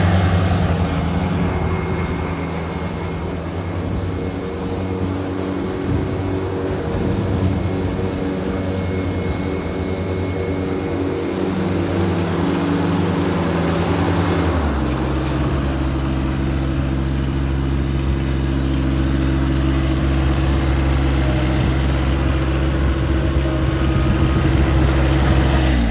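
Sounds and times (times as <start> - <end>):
riding lawn mower engine running: 0.0 - 25.9.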